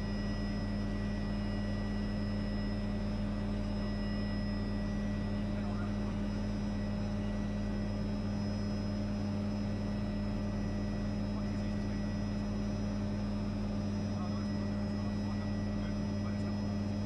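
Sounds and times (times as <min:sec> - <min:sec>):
helicopter engine and rotor drone: 0:00.0 - 0:17.0
high turbine whine: 0:00.0 - 0:17.0.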